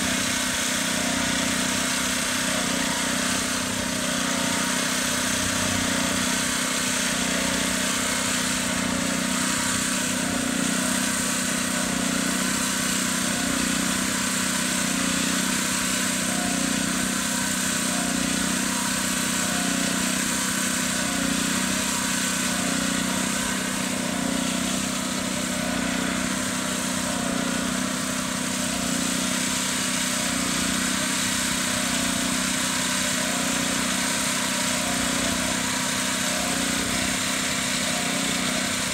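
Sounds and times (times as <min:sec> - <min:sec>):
small gasoline engine droning: 0:00.0 - 0:38.9.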